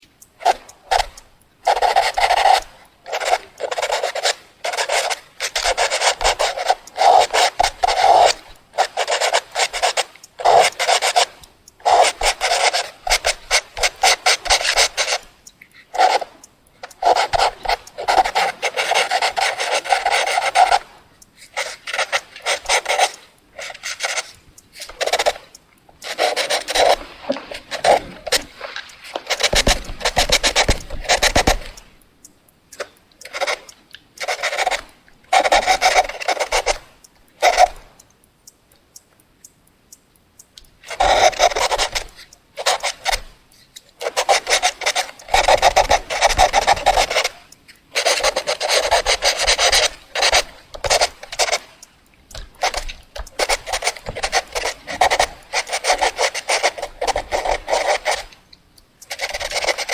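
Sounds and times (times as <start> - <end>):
pencil scribbling on paper: 0.4 - 15.3, 15.9 - 20.9, 21.5 - 31.8, 33.3 - 36.8, 40.9 - 43.2, 44.0 - 51.7, 52.3 - 58.3, 59.0 - 59.9.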